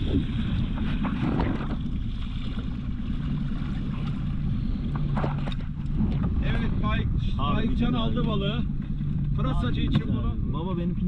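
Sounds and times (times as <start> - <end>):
outboard motor running: 0.0 - 11.0
wind buffeting microphone: 0.0 - 11.0.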